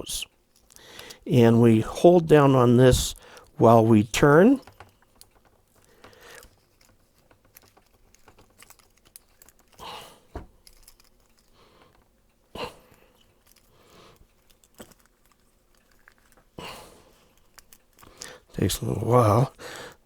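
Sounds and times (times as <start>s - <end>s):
rustling: 2.6s - 19.4s.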